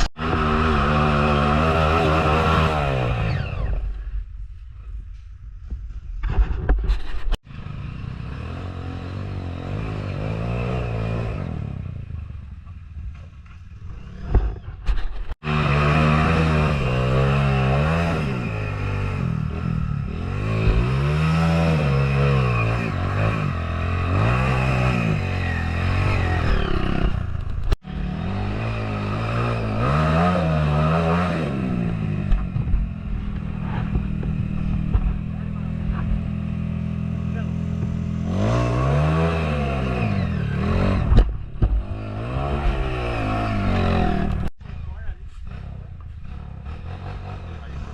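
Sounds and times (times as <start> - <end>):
dirt bike engine revving: 0.0 - 4.0, 7.5 - 12.2, 13.8 - 47.9.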